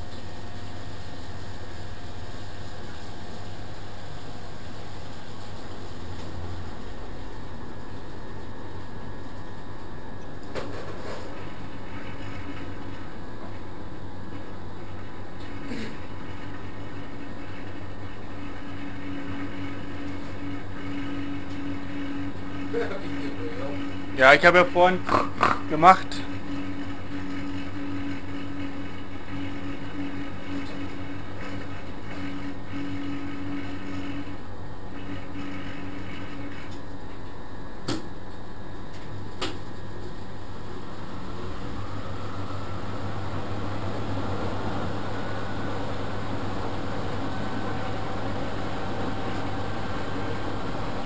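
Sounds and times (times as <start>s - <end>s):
washing machine motor hum: 0.0s - 51.0s.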